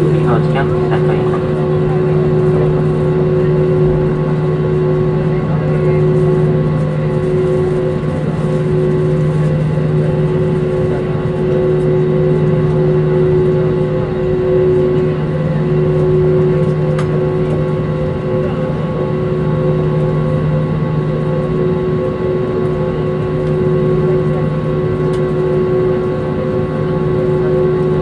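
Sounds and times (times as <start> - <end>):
airflow and rolling noise: 0.0 - 28.0
jet engines humming: 0.0 - 28.0.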